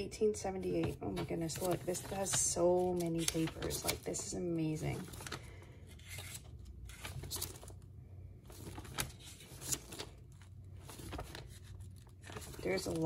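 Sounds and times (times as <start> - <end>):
paper pages rustling: 0.8 - 7.8, 8.4 - 13.0.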